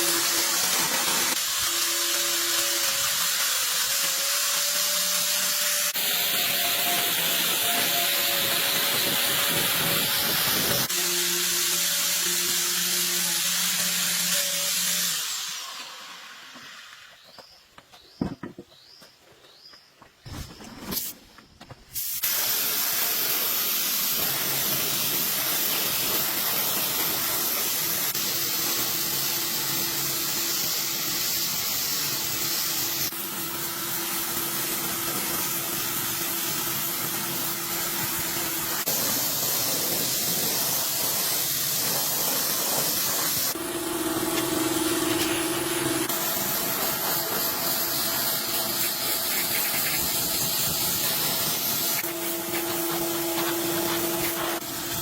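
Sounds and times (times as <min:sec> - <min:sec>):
rushing air hissing: 0:00.0 - 0:17.1, 0:21.9 - 0:55.0.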